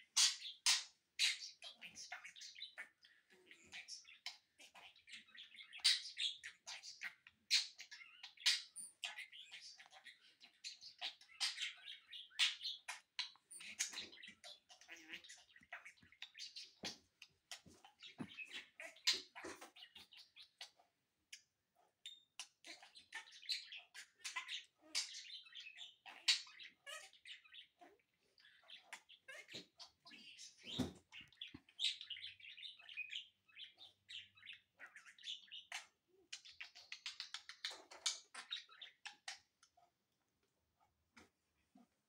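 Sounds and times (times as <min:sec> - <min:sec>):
budgerigar chirping and warbling: 0:00.0 - 0:21.4, 0:22.0 - 0:39.5.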